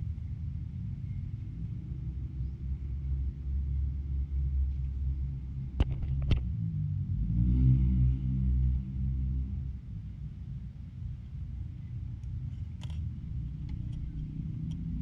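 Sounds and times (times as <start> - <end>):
low steady hum: 0.0 - 15.0
steady low rumble: 0.0 - 15.0.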